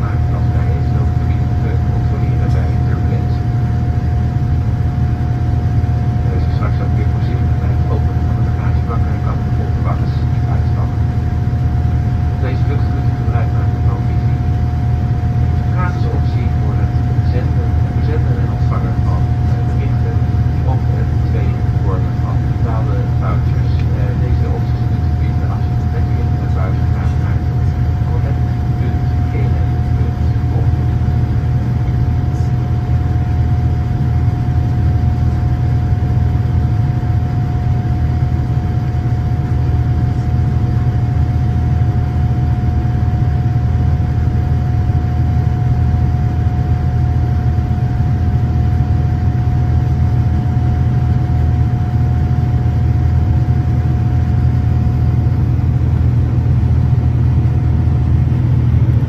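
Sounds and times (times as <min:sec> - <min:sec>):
jet engine deep rumble: 0:00.0 - 0:59.0.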